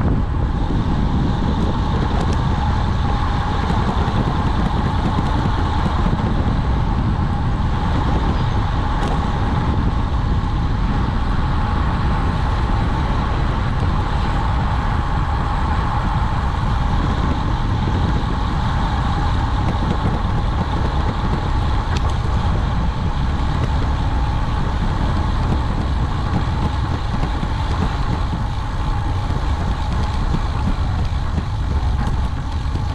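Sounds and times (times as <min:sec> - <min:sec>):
mid-pitched whine: 0:00.0 - 0:32.9
road rumble: 0:00.0 - 0:32.9
wind rush: 0:00.0 - 0:32.9.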